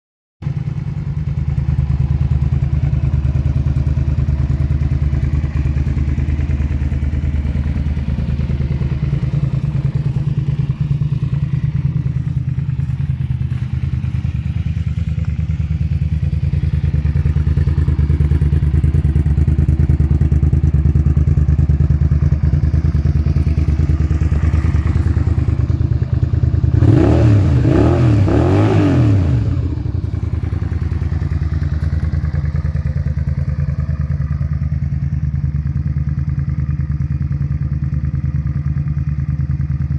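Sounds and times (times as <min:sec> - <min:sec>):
motorcycle engine idling: 0:00.4 - 0:39.9.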